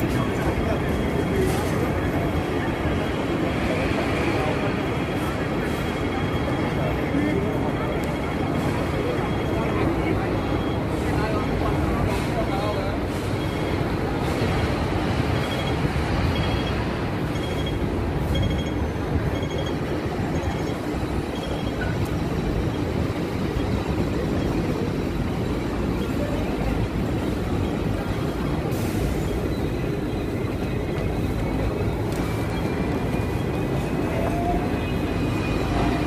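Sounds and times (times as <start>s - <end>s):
city street traffic rumble: 0.0s - 36.0s.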